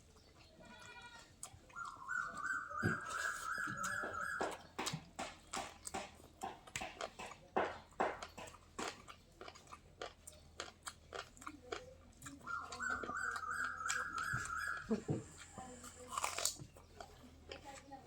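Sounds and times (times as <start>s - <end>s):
crisp chewing crunches: 0.0s - 18.0s.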